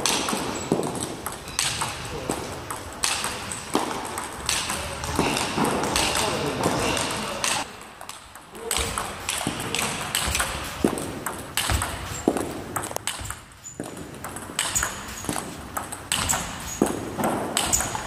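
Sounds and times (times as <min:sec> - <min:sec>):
ping pong ball bouncing on table: 0:00.0 - 0:18.0
ping pong ball hitting bats: 0:00.0 - 0:18.0.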